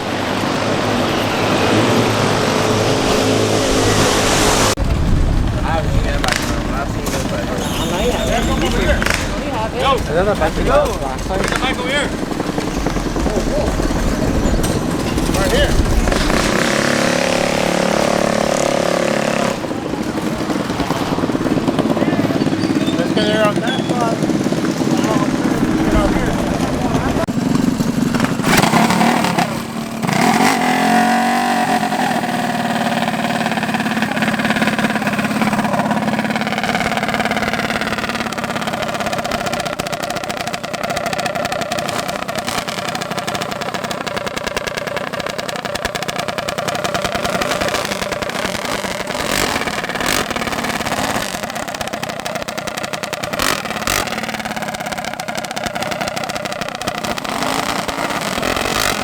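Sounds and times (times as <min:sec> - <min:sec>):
mini bike engine revving: 0:00.0 - 0:59.0.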